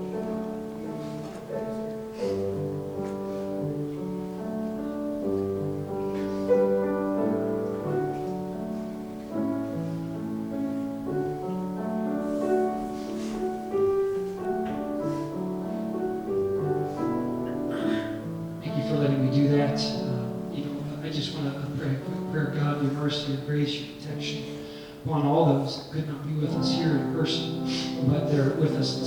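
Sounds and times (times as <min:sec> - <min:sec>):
soft keyboard chords: 0:00.0 - 0:29.0.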